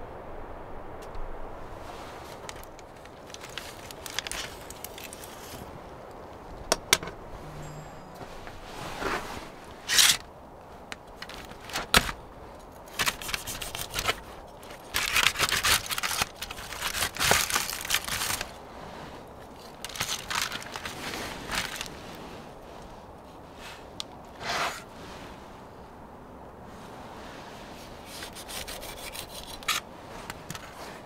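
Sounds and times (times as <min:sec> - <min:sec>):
rustling and scraping of objects: 0:01.7 - 0:25.9, 0:26.6 - 0:31.0.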